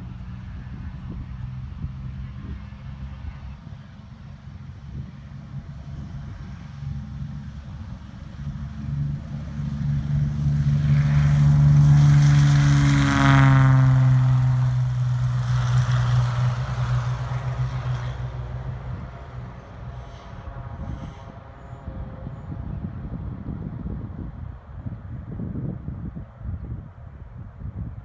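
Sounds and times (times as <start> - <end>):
propeller plane passing by: 0.0 - 28.0.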